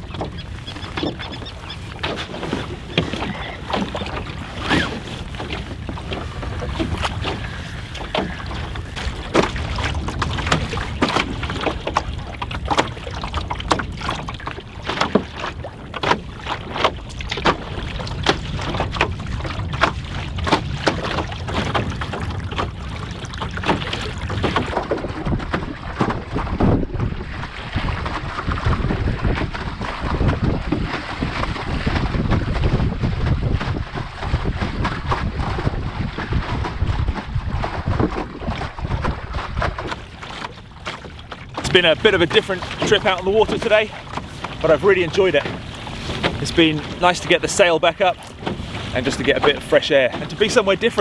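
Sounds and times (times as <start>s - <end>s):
water splashing against canoe hull: 0.0s - 51.0s
wind rumble on microphone: 0.0s - 51.0s.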